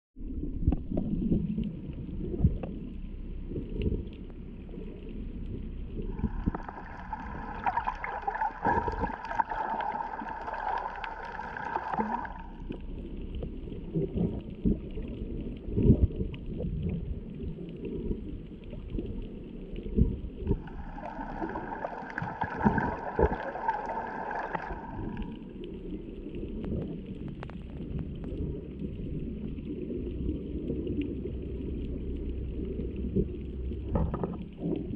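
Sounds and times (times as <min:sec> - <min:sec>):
muffled underwater rumble: 0:00.2 - 0:34.9.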